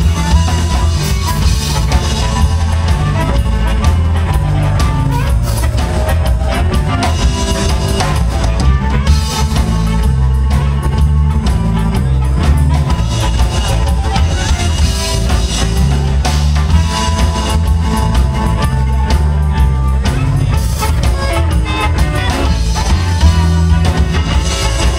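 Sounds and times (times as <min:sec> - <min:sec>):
amplified harmonica: 0:00.0 - 0:24.9
drum kit: 0:00.0 - 0:24.9
electric bass: 0:00.0 - 0:24.9
electric guitar: 0:00.0 - 0:24.9.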